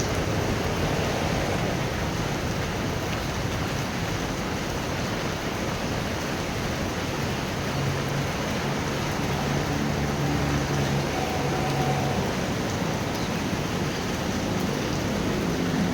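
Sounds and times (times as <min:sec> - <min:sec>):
heavy rain falling: 0:00.0 - 0:15.9.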